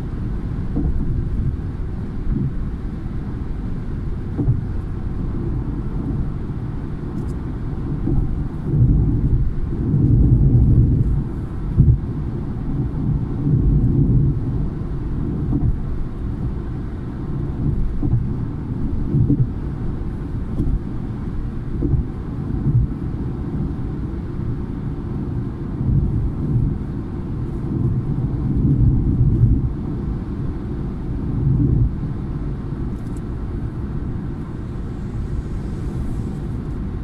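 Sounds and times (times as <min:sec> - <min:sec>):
car road rumble from inside: 0:00.0 - 0:37.0
wind noise: 0:00.0 - 0:37.0.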